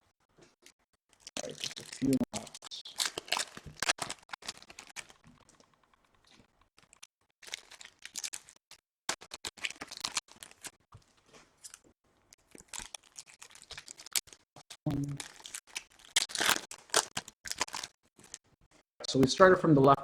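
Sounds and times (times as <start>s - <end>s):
foil wrappers crinkling: 1.1s - 11.8s, 12.4s - 18.5s.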